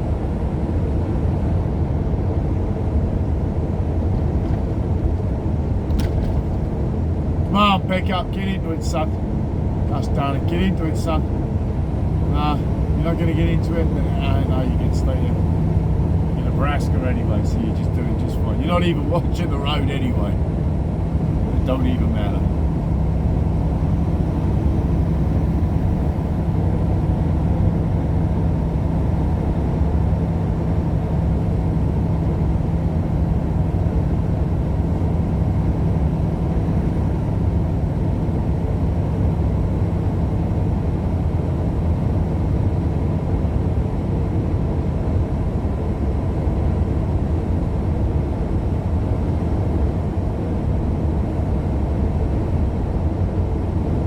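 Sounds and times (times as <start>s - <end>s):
car cabin road and engine noise: 0.0s - 54.0s.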